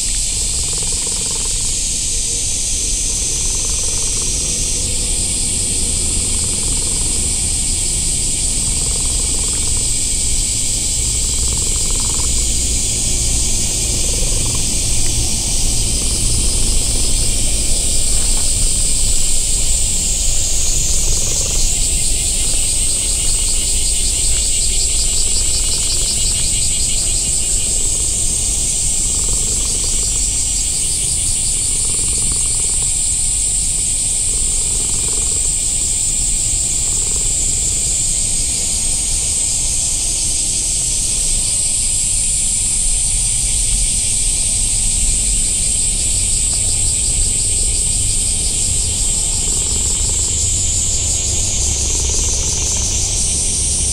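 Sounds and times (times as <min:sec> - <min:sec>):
cicadas chorus: 0:00.0 - 0:53.9.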